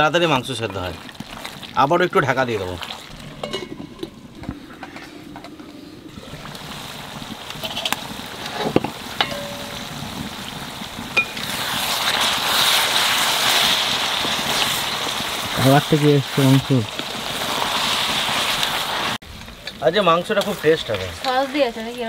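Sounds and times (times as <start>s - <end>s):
curry sizzling in a pot: 0.0s - 22.0s.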